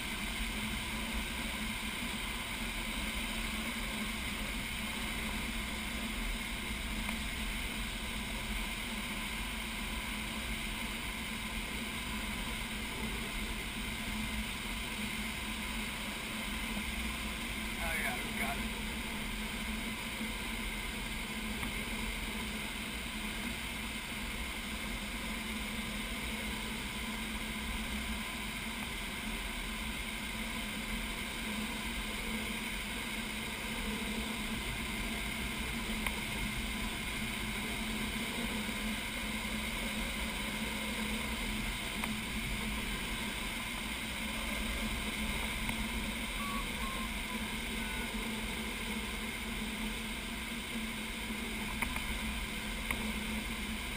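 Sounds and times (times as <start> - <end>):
low hum: 0.0 - 53.9.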